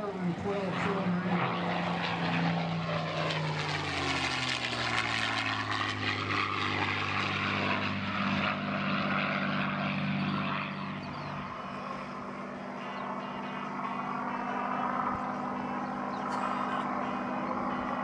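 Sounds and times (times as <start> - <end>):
propeller plane engine fly-by: 0.0 - 18.0.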